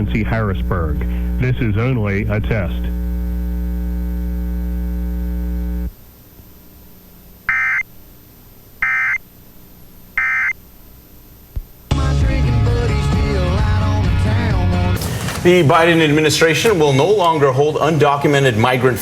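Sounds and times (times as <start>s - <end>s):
electrical hum: 0.0s - 17.4s.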